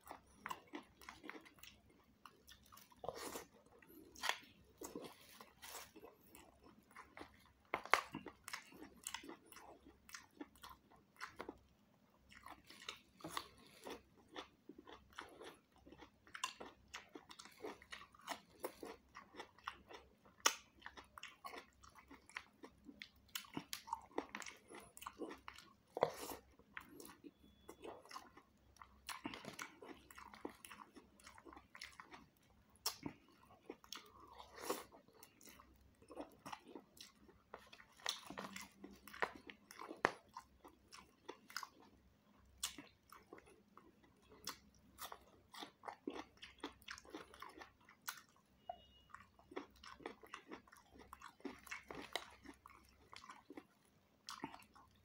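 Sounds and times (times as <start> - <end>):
close-up chewing and crunching: 0.0 - 55.0.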